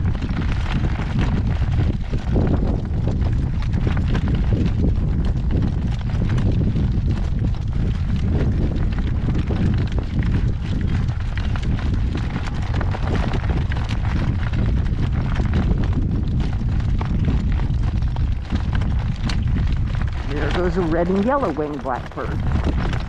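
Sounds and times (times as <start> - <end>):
horse hoofbeats: 0.0 - 23.0
wind buffeting microphone: 0.0 - 23.0.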